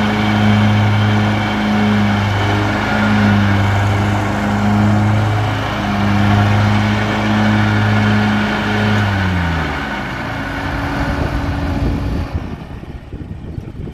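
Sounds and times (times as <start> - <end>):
riding mower engine running: 0.0 - 13.9.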